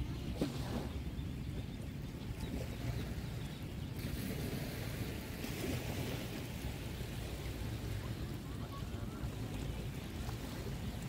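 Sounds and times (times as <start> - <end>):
small waves washing on beach: 0.0 - 1.2, 2.3 - 11.0.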